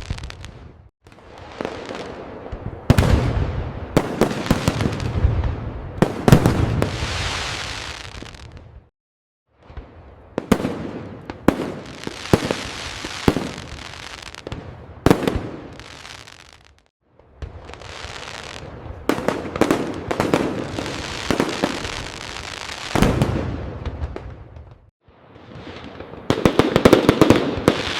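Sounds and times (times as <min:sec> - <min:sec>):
fireworks bangs: 0:00.0 - 0:08.9, 0:09.6 - 0:27.9
fireworks crackling: 0:00.0 - 0:08.9, 0:09.6 - 0:27.9.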